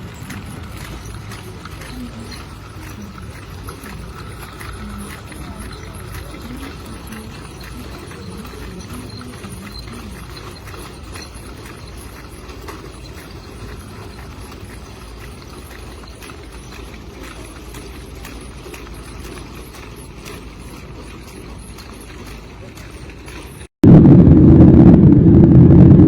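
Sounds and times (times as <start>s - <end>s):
airplane low rumble: 0.0s - 26.0s.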